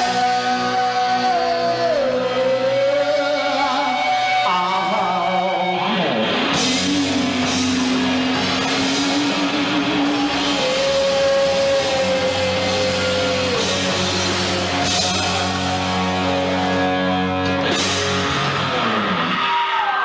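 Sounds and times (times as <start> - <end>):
person singing: 0.0 - 16.1
live rock band playing: 0.0 - 20.0.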